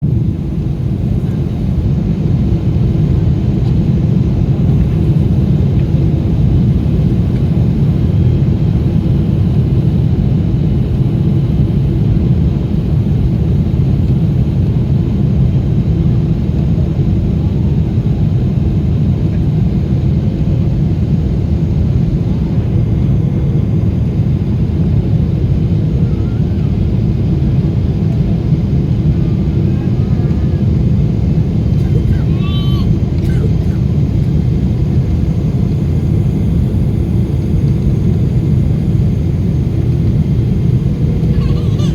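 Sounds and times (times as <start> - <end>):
faint steady hums: 0.0 - 17.3, 20.9 - 41.9
aircraft cabin engine rumble: 0.0 - 41.9.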